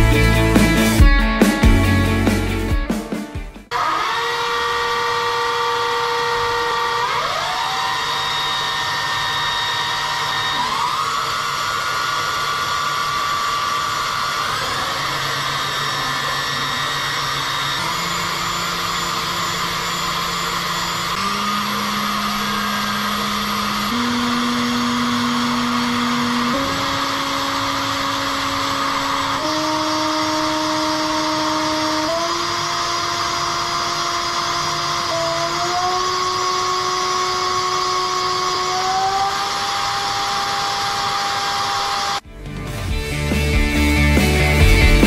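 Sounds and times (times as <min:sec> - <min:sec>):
milling machine spindle whine: 0:03.7 - 0:42.2.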